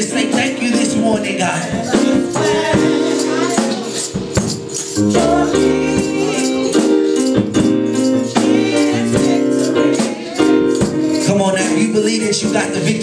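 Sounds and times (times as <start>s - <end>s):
band playing worship music: 0.0s - 13.0s
people singing: 0.0s - 13.0s.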